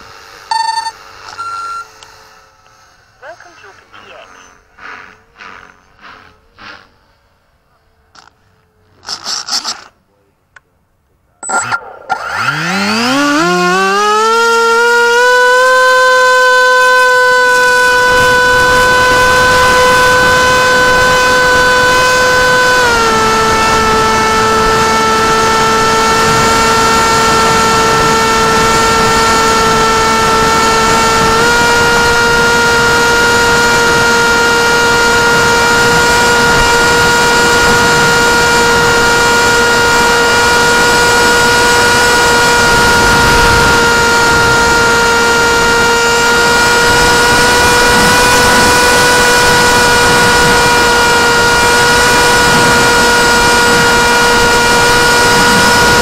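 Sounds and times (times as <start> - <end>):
electric motor high drone: 0.0 - 10.0, 11.4 - 56.0.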